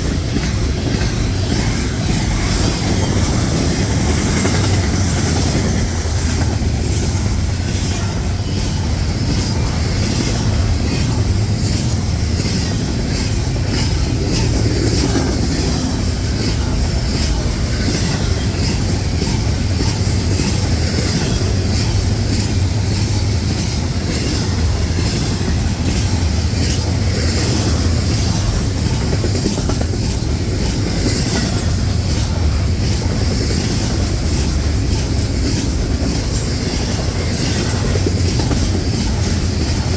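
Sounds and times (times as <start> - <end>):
freight train rumbling past: 0.0 - 39.9
train wheels clicking over rail joints: 0.0 - 39.9.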